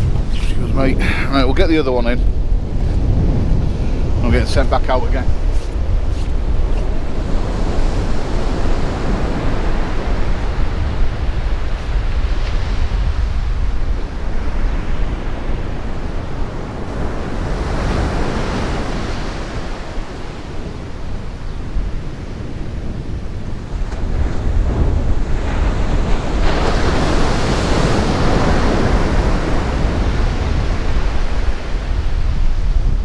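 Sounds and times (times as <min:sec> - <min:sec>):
sea surf breaking on beach: 0:00.0 - 0:33.0
wind buffeting microphone: 0:00.0 - 0:33.0.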